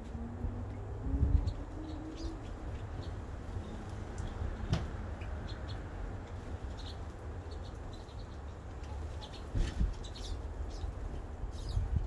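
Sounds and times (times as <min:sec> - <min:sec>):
small birds chirping: 0:00.7 - 0:12.0.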